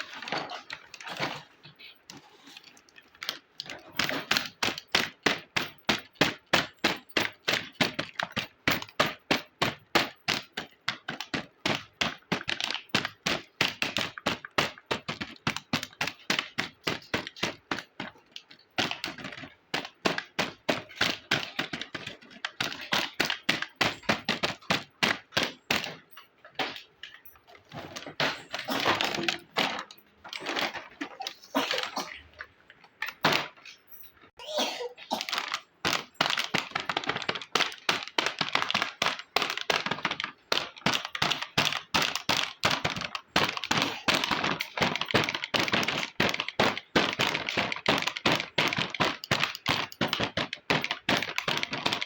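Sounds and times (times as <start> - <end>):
plastic toy pieces clicking and tapping: 2.0 - 33.8, 35.2 - 52.0.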